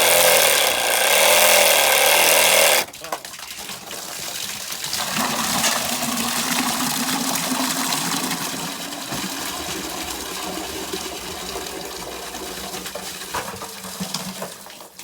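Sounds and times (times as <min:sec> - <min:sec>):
water gushing from drain pipe: 0:00.0 - 0:15.0.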